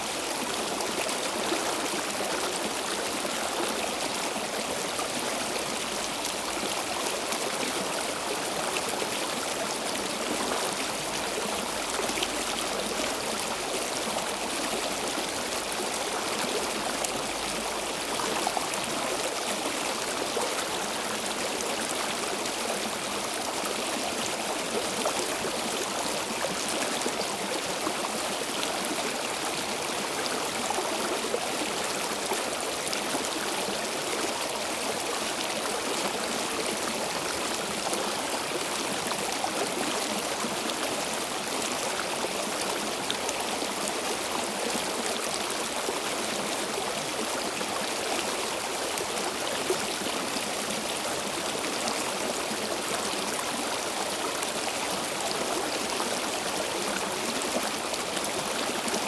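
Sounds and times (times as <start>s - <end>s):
stream water over stones: 0.0s - 59.0s.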